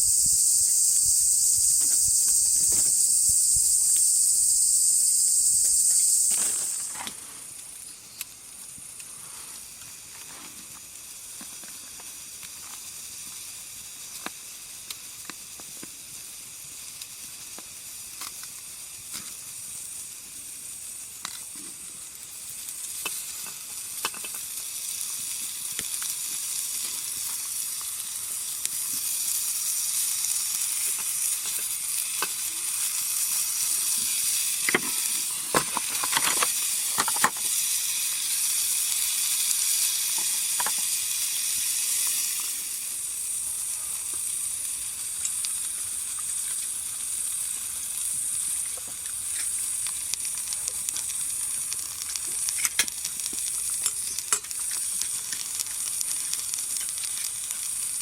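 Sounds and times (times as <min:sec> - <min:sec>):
insects chirring: 0:00.0 - 0:10.2, 0:10.8 - 0:58.0
fire sizzling hiss: 0:00.0 - 0:58.0
wood fire crackling: 0:00.0 - 0:58.0.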